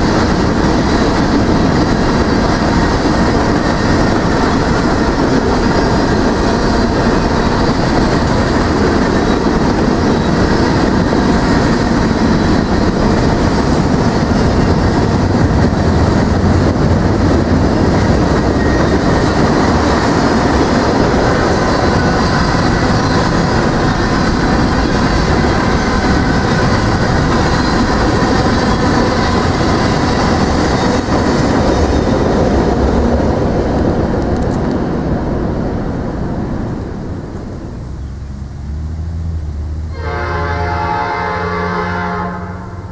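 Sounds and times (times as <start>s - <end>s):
train passing on rails: 0.0s - 42.9s.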